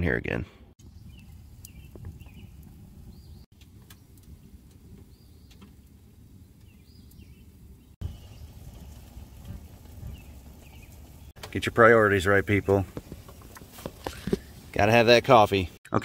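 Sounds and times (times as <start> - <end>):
birds chirping: 0.0 - 16.0
wood stove fire rumbling: 0.8 - 15.6
fire crackles: 0.8 - 15.8.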